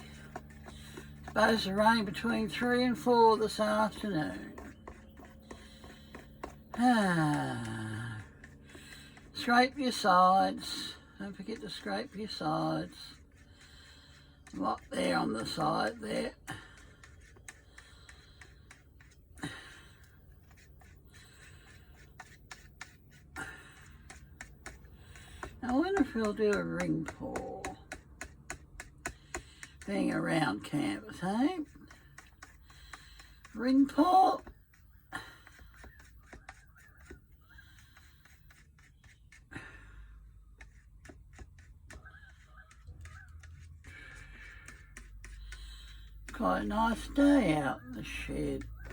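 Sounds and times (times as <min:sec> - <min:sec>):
paint stirred in plastic pot: 0:00.0 - 0:48.9.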